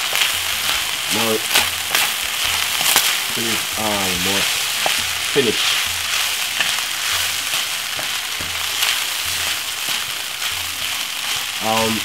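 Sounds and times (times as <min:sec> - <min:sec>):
rice sizzling in frying pan: 0:00.0 - 0:12.0
spatula stirring and clicking: 0:00.0 - 0:12.0.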